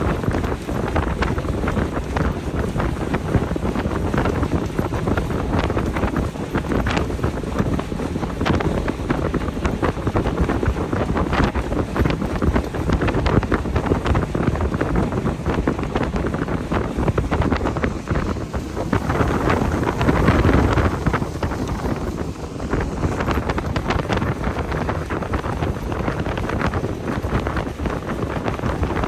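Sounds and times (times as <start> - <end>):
hull knocking on waves: 0.0 - 29.0
motorboat engine rumble: 0.0 - 29.0
wind on microphone: 0.0 - 29.0.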